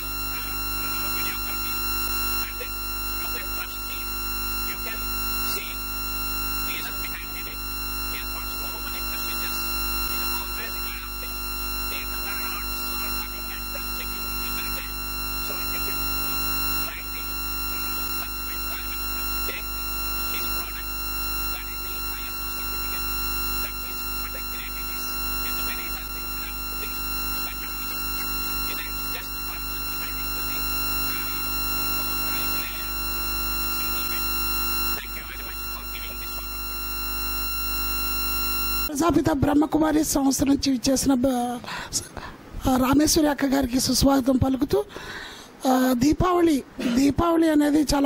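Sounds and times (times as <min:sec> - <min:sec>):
electronic drone: 0:00.0 - 0:38.9
low mains hum: 0:00.0 - 0:48.0.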